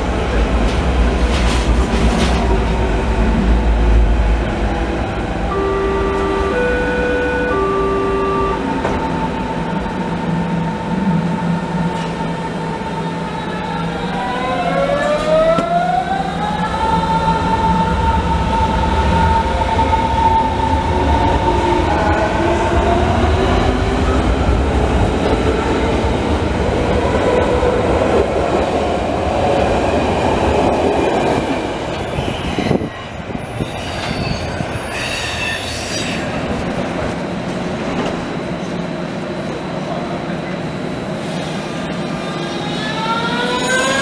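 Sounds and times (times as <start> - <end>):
wheels rumbling on rail: 0.0 - 44.0.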